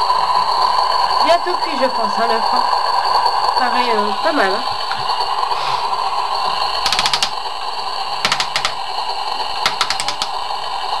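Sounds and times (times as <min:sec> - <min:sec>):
electronic frying sound effect: 0:00.0 - 0:11.0.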